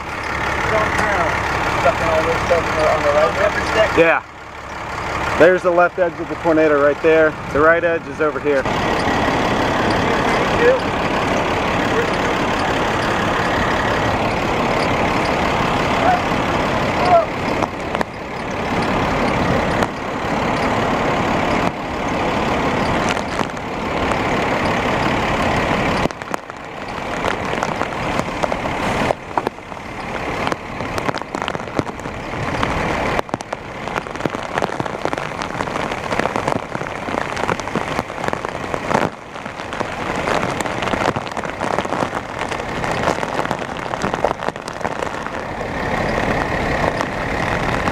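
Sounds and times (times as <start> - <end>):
rain: 0.0 - 47.9
wind: 0.0 - 47.9.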